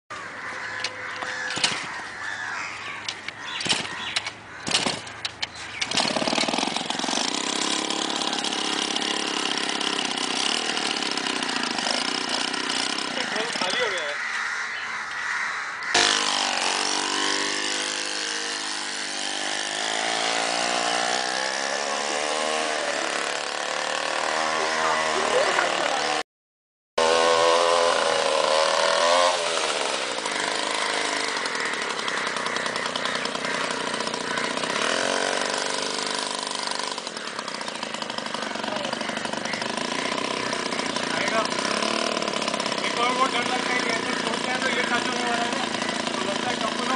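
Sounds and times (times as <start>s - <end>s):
small engine running: 3.5s - 14.3s, 15.9s - 26.2s, 27.0s - 46.9s.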